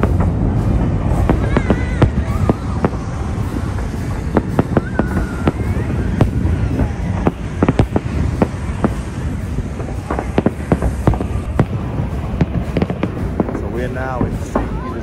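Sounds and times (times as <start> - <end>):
firework whistle: 0.0 - 15.0
fireworks bangs: 0.0 - 15.0
low rumble: 0.0 - 15.0.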